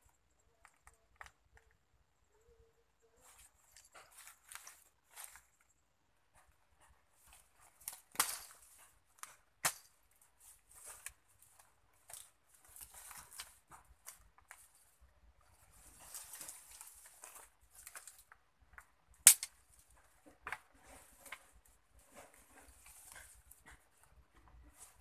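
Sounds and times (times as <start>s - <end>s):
dry twigs and leaves rustling: 3.1s - 5.7s, 7.2s - 25.0s.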